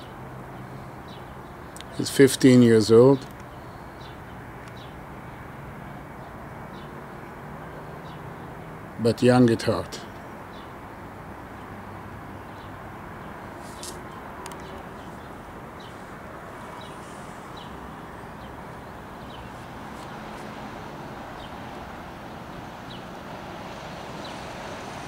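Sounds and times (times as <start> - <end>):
outdoor background rush: 0.0 - 25.0.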